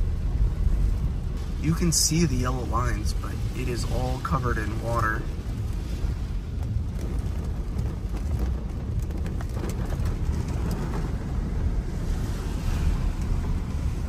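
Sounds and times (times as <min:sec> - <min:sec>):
water washing under car tyres: 0:00.0 - 0:14.0
raindrops ticking on glass: 0:00.6 - 0:14.0.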